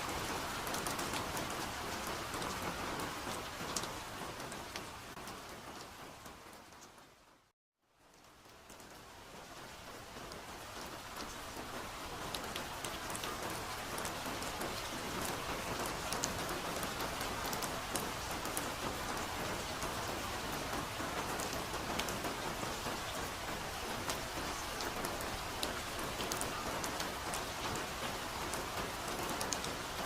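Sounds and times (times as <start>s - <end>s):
soft steady rain: 0.0s - 30.0s.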